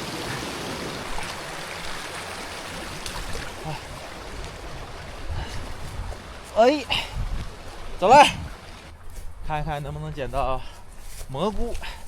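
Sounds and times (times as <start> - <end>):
forest stream flowing: 0.0 - 12.0.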